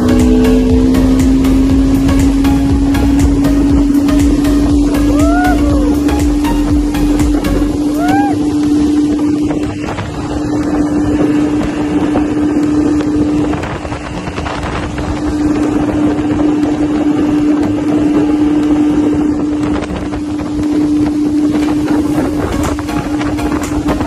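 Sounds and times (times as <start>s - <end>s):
outboard motor running: 0.0s - 24.0s
water rushing off hull: 0.0s - 24.0s
wind buffeting microphone: 0.0s - 24.0s.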